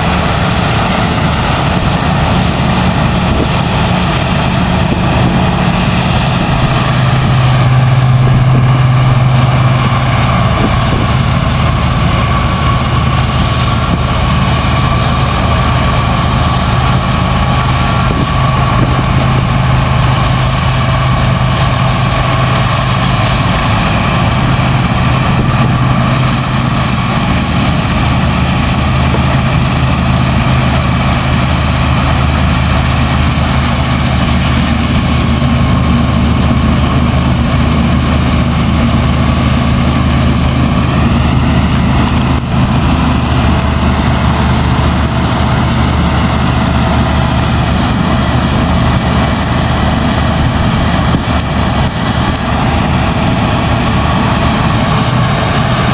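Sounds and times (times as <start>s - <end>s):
diesel engine drone: 0.0s - 55.9s
threshing machinery whine: 0.0s - 55.9s.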